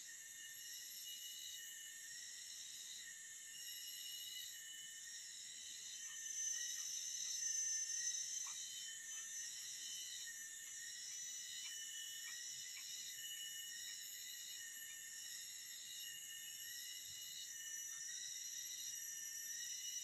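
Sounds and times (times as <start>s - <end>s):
faint insect chirps: 0.0s - 20.0s
insect chorus drones: 0.0s - 20.0s.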